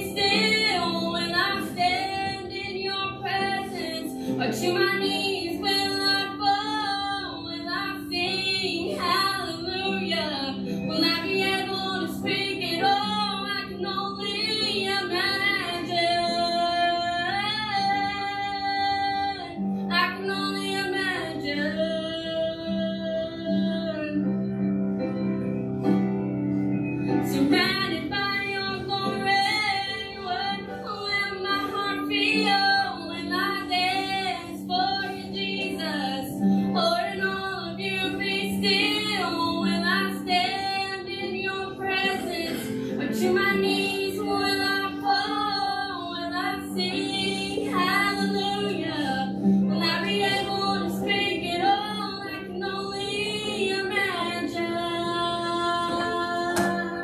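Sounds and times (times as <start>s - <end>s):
woman singing slow song: 0.0s - 24.7s, 27.0s - 57.0s.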